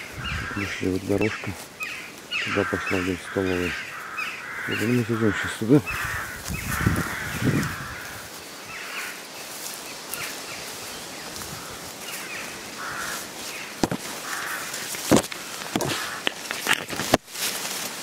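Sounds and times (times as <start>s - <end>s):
crows cawing: 0.0s - 9.4s, 10.1s - 16.8s
footsteps through tall grass: 0.0s - 18.0s
leaves rustling on microphone: 0.0s - 18.0s.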